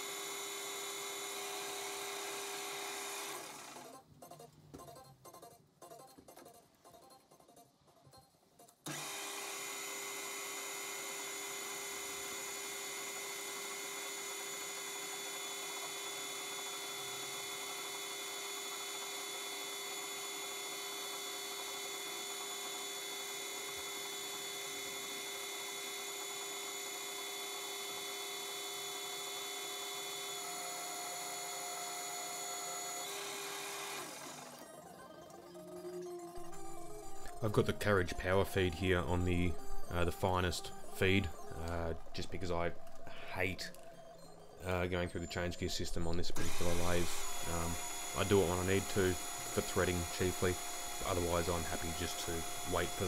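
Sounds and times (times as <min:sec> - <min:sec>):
metal lathe whine: 0:08.9 - 0:35.8, 0:36.4 - 0:53.0.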